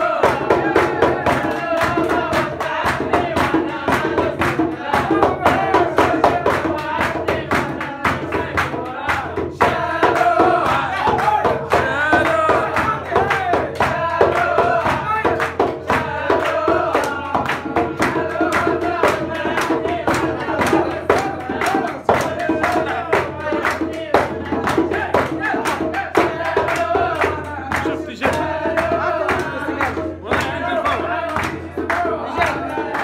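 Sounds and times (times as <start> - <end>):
group clapping rhythm: 0.0 - 33.0
man singing: 0.0 - 33.0.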